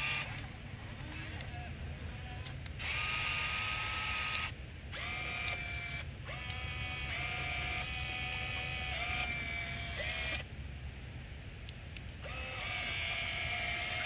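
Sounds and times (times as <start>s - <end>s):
electric motors whining: 0.0s - 10.5s, 12.2s - 14.0s.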